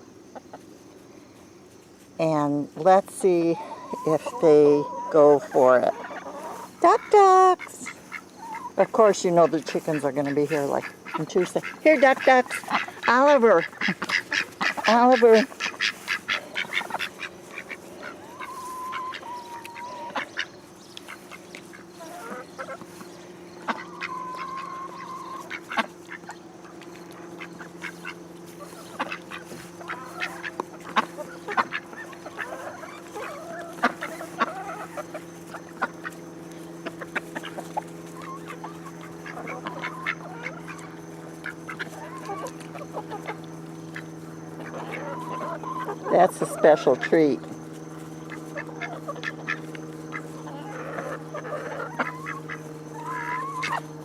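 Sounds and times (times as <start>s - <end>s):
steady low hum: 0.0s - 54.0s
ducks quacking: 3.2s - 54.0s
ducks pecking clicks: 6.0s - 54.0s.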